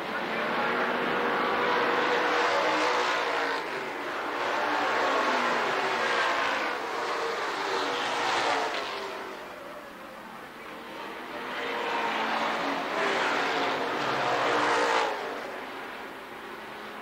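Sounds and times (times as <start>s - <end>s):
racing car engines passing: 0.0s - 17.0s.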